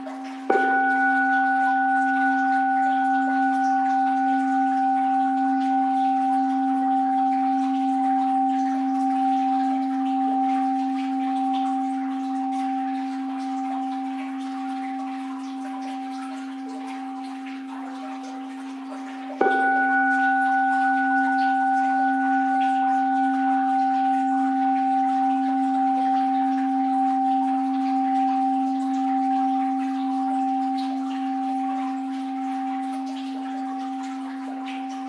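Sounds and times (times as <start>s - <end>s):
bowl bell ringing: 0.0s - 35.0s
faint flowing water hiss: 0.0s - 35.0s.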